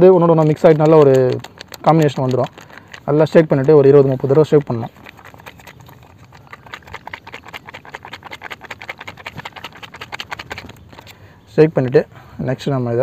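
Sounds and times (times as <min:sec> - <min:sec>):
plastic sachet crinkling: 0:00.0 - 0:11.2.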